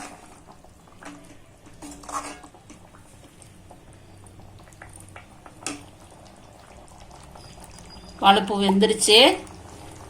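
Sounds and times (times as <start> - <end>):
curry simmering: 0.0 - 10.0.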